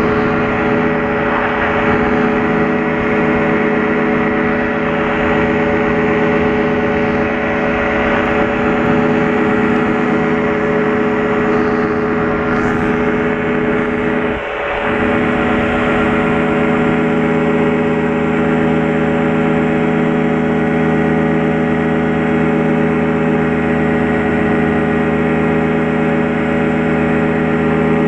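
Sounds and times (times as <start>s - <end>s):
light aircraft engine droning: 0.0s - 28.0s.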